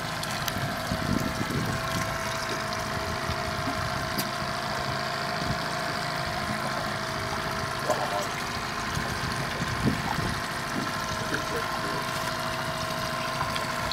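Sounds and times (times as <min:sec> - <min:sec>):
outboard motor running: 0:00.0 - 0:13.9
water washing at boat stern: 0:00.0 - 0:13.9.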